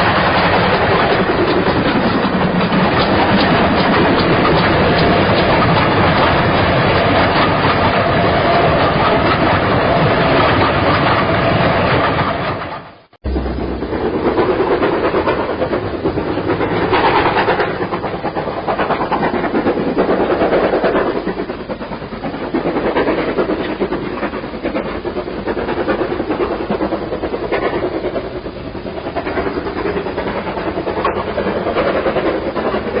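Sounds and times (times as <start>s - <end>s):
clickety-clack of rail joints: 0.0s - 33.0s
train wheels rumbling on rails: 0.0s - 33.0s.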